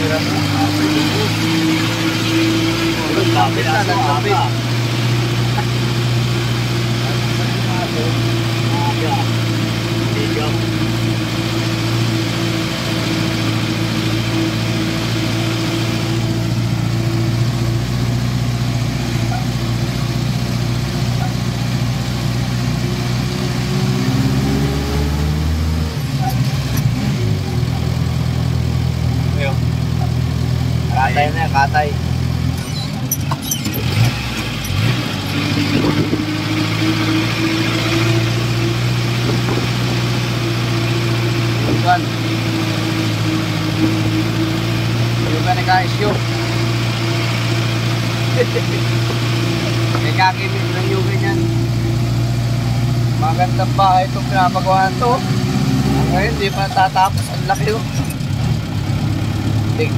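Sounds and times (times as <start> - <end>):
jeep engine humming: 0.0 - 59.9
road and wind noise: 0.0 - 59.9.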